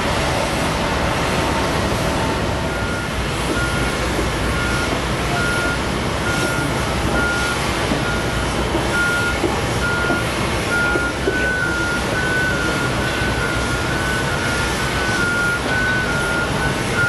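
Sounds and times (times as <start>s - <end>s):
jet engines rumbling: 0.0s - 17.0s
reversing alarm beeping: 1.5s - 17.0s.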